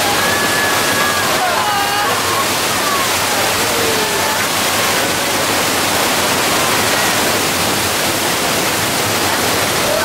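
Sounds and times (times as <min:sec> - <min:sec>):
torrent of water rushing: 0:00.0 - 0:10.0.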